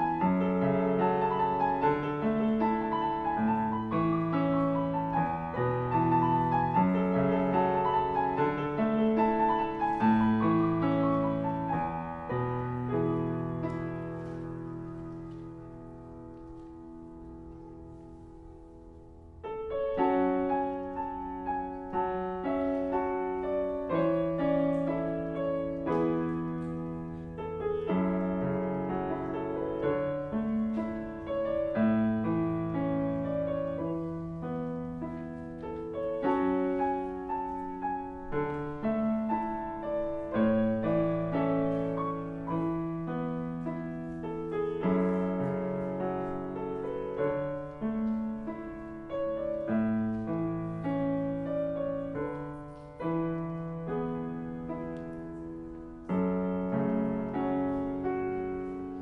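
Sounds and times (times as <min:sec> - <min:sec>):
grand piano playing chords: 0:00.0 - 0:59.0.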